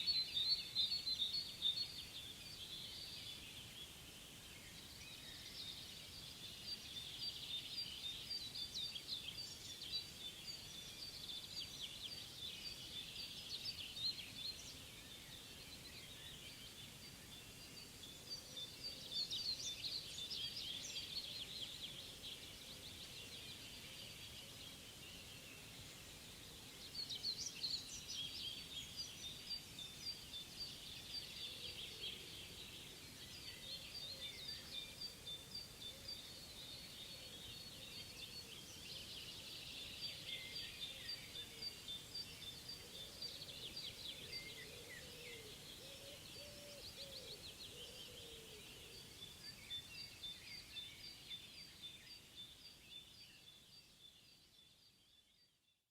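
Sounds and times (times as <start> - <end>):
songbirds twittering trills: 0.0 - 55.5
faint background hiss: 0.0 - 55.9.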